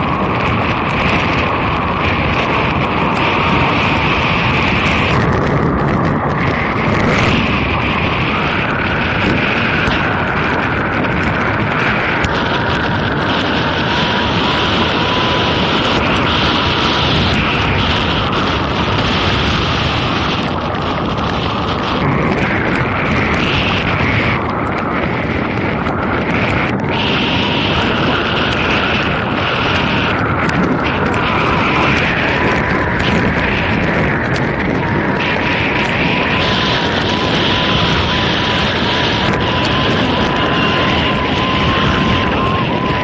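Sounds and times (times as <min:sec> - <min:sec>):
road noise: 0:00.0 - 0:43.0
wind buffeting microphone: 0:00.0 - 0:43.0.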